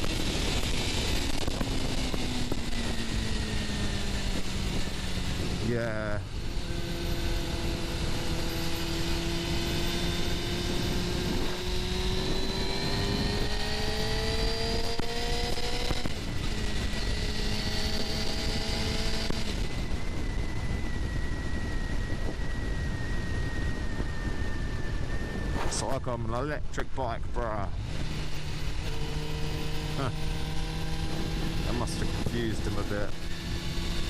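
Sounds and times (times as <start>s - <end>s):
motorcycle engine revving: 0.0s - 34.0s
wind noise: 0.0s - 34.0s.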